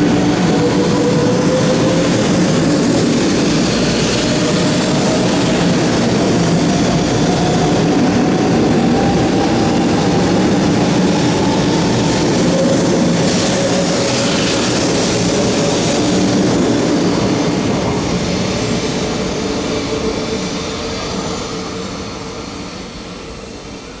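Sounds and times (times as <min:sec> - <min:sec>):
train rolling past: 0:00.0 - 0:24.0.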